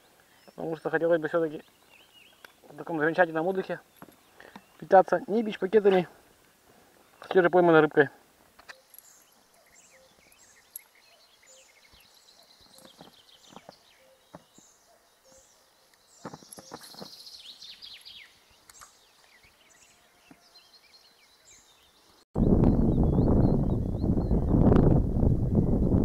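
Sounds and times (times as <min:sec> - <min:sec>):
small birds chirping: 0:00.0 - 0:24.7.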